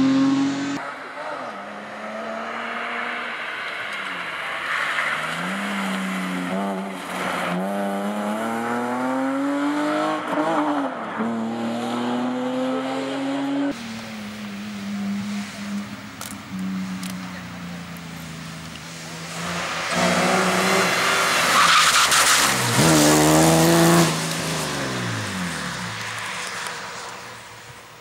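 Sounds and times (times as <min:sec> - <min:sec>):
tyre and road noise: 0:00.0 - 0:28.0.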